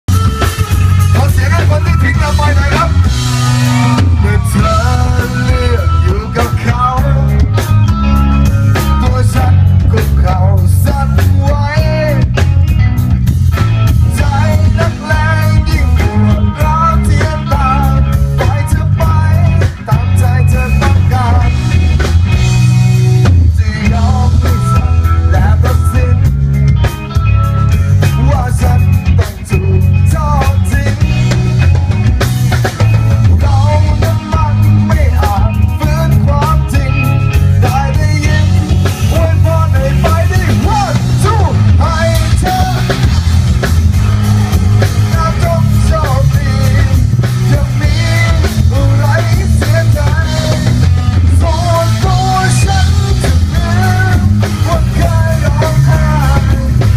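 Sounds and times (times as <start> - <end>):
live rock band playing: 0.0 - 56.9
electric guitar: 0.1 - 56.9
man singing: 1.0 - 12.5, 14.0 - 21.8, 23.2 - 26.6, 28.0 - 31.6, 33.2 - 43.2, 44.8 - 56.9.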